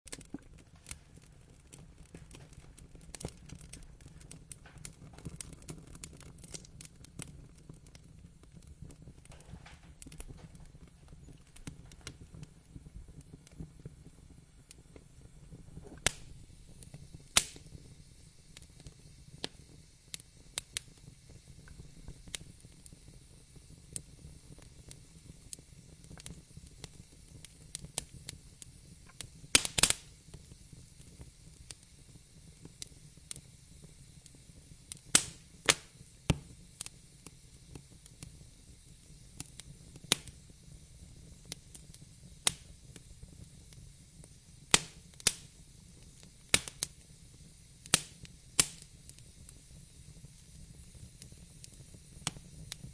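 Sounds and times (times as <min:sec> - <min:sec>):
low rumble of flames: 0:00.1 - 0:52.9
wood fire crackling and popping: 0:00.1 - 0:52.9.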